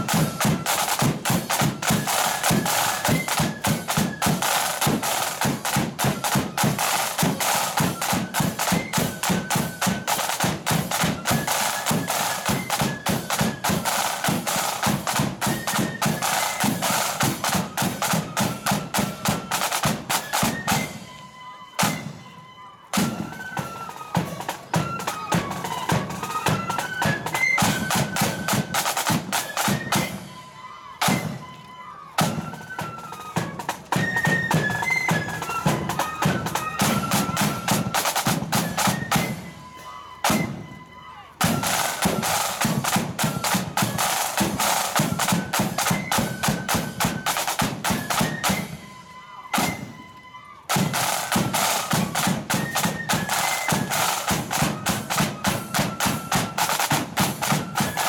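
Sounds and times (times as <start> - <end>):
flutes playing a tune: 0.0 - 58.0.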